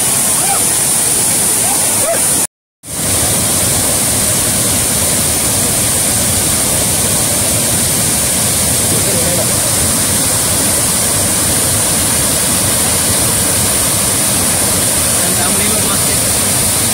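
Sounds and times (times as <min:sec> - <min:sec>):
water pouring over spillway: 0:00.0 - 0:16.9
waterfall over rock: 0:00.0 - 0:16.9.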